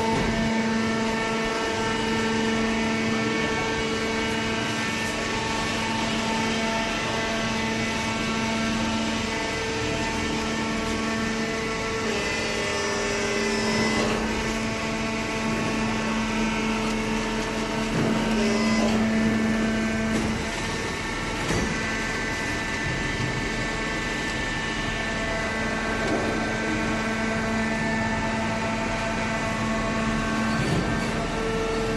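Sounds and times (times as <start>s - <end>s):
baler machine hum with whining tones: 0.0s - 31.9s.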